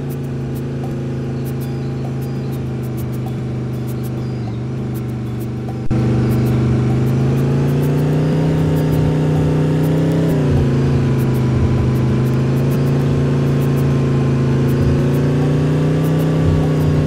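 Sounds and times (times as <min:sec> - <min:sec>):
bus engine running: 0:00.0 - 0:17.0.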